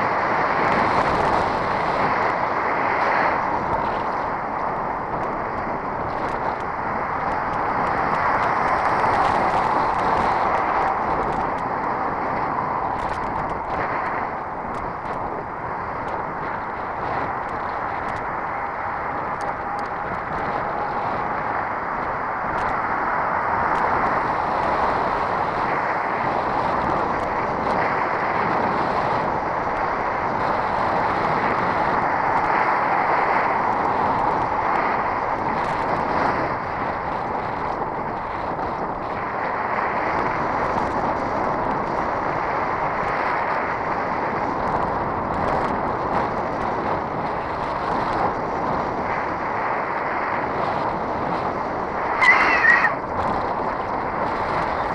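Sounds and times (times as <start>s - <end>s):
muffled wind and road noise: 0.0s - 54.9s.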